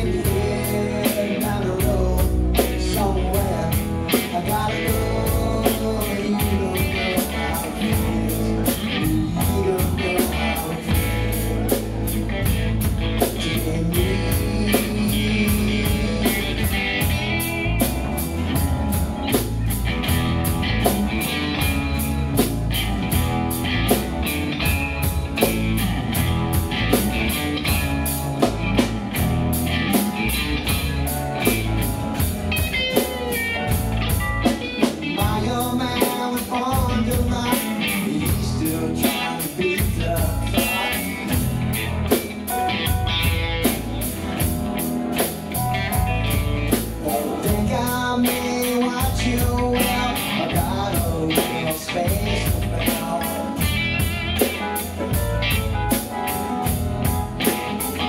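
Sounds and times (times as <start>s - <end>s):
electric guitar: 0.0s - 58.0s
live blues-rock band: 0.0s - 58.0s.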